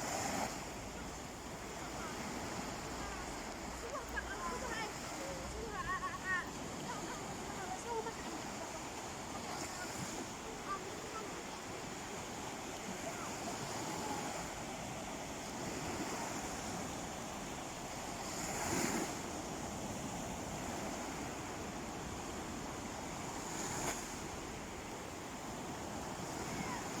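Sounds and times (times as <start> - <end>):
calm sea waves washing ashore: 0.0 - 27.0
wave breaking: 0.0 - 27.0.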